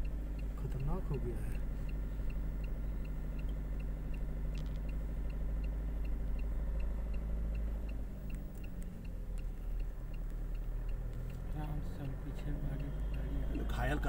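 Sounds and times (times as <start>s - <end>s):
light regular ticking: 0.0s - 14.0s
vehicle engine rumbling: 0.0s - 14.0s.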